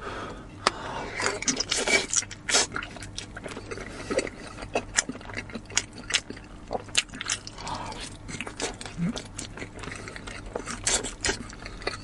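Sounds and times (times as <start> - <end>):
person chewing with wet smacks: 1.2 - 12.0.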